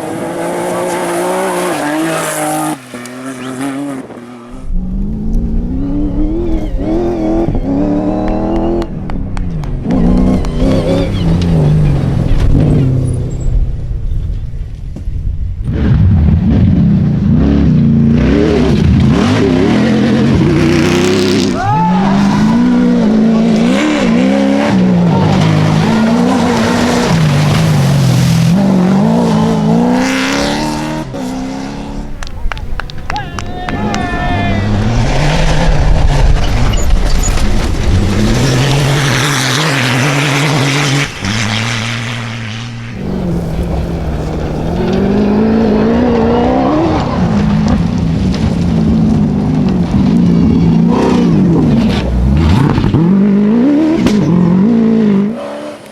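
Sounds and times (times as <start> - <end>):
racing engine at full throttle: 0.0 - 13.2, 15.6 - 55.9.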